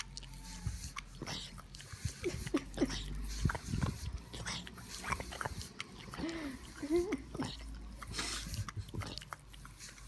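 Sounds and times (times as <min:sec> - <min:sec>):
dog whimpering: 0:00.0 - 0:09.3
dog snuffling: 0:00.0 - 0:10.0.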